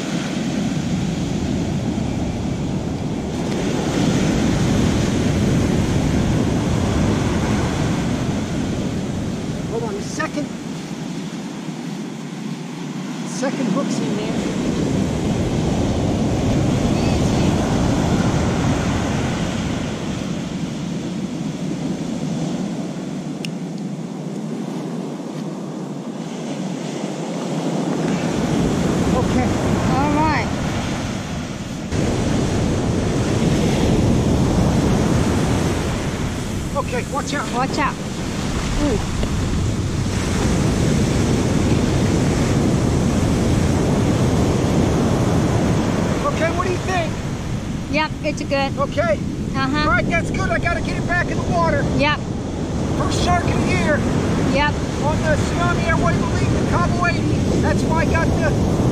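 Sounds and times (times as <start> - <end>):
ocean surf breaking: 0.0 - 58.9
wind buffeting microphone: 0.0 - 58.9.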